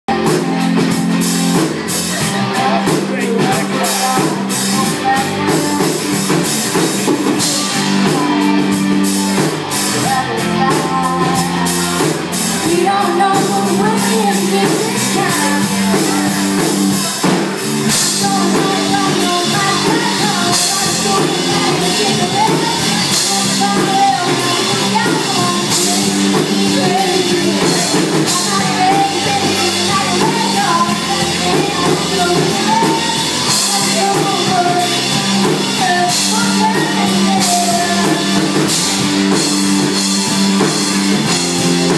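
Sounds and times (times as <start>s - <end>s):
drum kit: 0.0s - 41.9s
electric guitars: 0.1s - 41.9s
woman singing: 2.2s - 39.5s.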